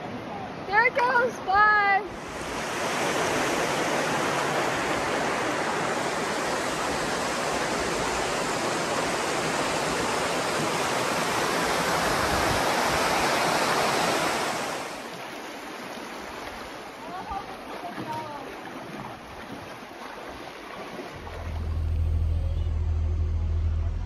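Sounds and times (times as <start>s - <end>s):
water rushing over rocks: 2.2s - 22.3s.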